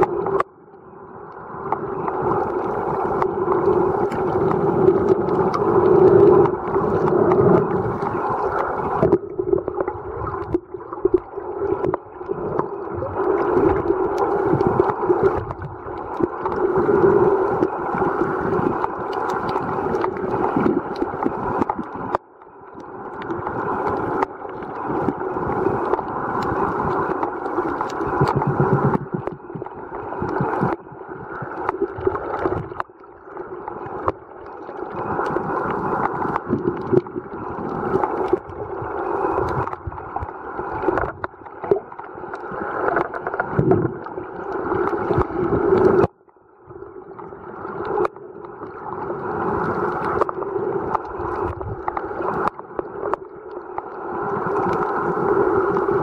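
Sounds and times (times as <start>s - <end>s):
small underwater clicks: 0.0s - 46.4s, 47.0s - 56.0s
underwater rushing water: 0.0s - 56.0s.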